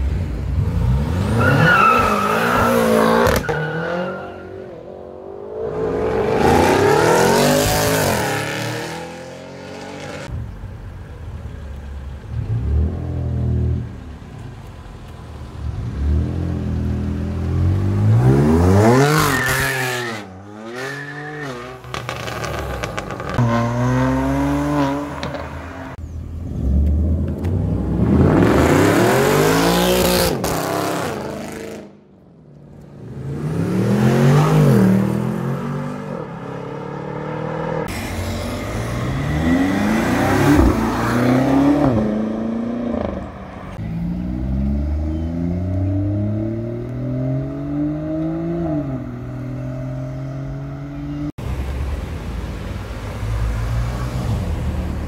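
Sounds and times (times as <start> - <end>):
cars accelerating hard: 0.5 - 10.3, 15.7 - 31.9, 33.0 - 51.3.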